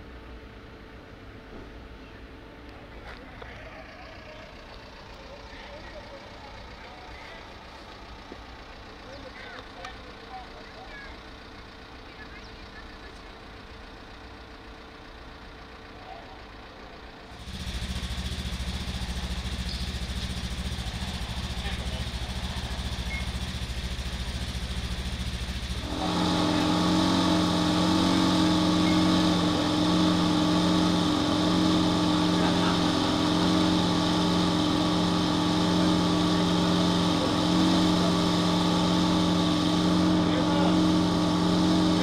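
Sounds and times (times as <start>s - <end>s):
fire engine engine idling and revving: 0.0s - 42.0s.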